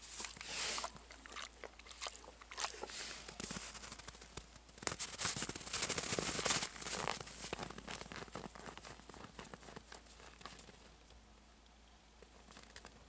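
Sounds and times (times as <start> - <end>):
boar rooting in snow: 0.0 - 11.1.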